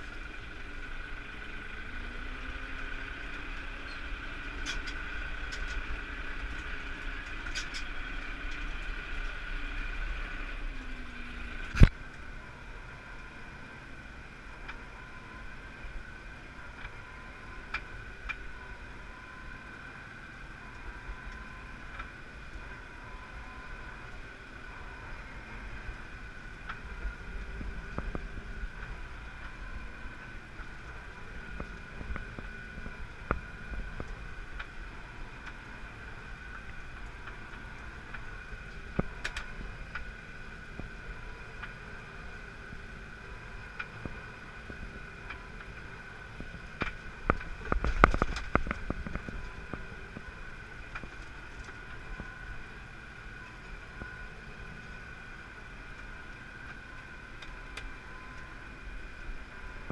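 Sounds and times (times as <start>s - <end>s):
tractor and baler humming: 0.0s - 59.9s.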